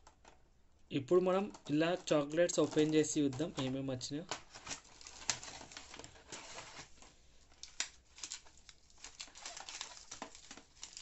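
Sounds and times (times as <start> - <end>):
foil wrappers crinkling: 1.3 - 3.8, 4.4 - 11.0.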